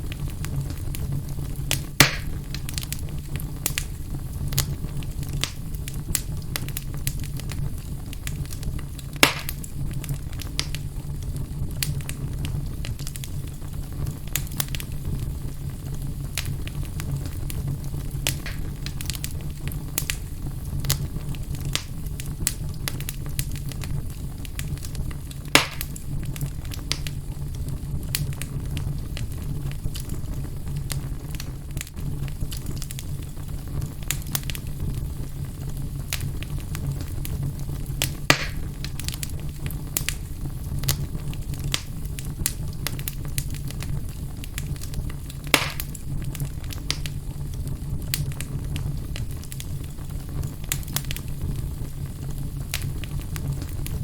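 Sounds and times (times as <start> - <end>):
fire crackling in fireplace: 0.0 - 54.0
loud pops of fire: 0.0 - 54.0.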